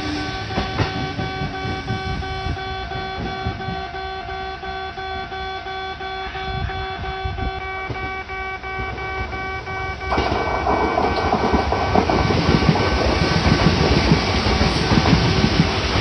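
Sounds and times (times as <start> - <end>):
train wheels rumbling on rails: 0.0 - 8.2, 8.8 - 16.0
level-crossing warning bell: 0.0 - 16.0.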